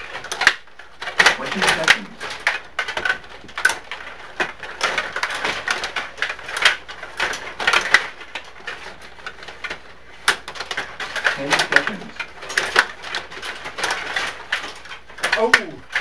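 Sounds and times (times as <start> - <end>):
table hockey rods clacking: 0.0 - 16.0.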